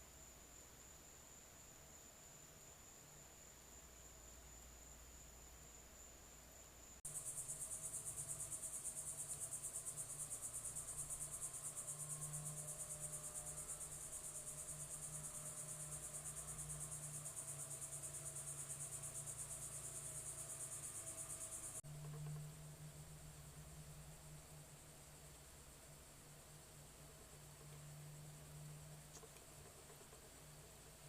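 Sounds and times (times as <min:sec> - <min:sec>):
insects trilling: 0:00.0 - 0:22.4, 0:26.5 - 0:31.0.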